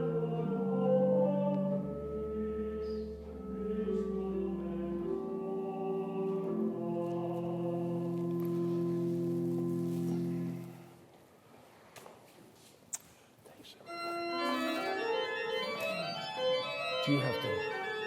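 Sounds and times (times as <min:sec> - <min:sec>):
slow church organ music: 0:00.0 - 0:11.1, 0:13.9 - 0:18.0.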